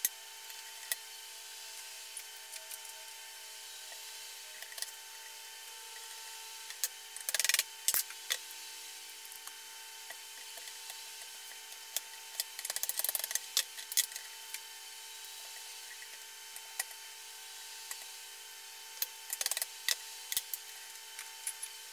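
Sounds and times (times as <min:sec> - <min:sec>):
steady hum: 0:00.0 - 0:21.9.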